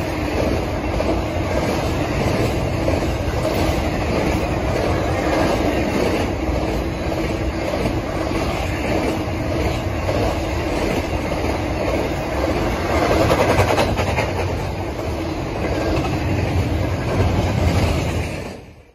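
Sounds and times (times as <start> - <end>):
freight train rumbling past: 0.0 - 18.9.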